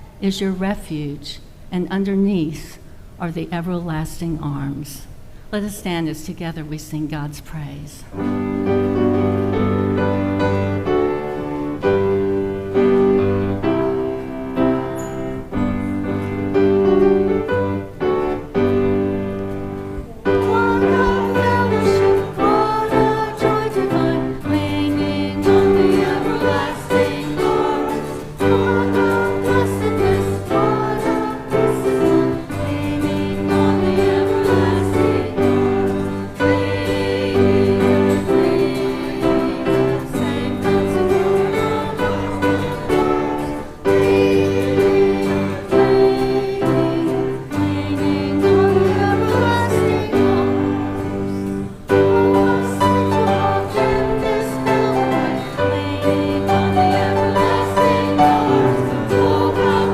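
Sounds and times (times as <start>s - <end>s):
instrumental accompaniment: 8.1s - 59.9s
congregation singing a hymn: 8.2s - 59.9s.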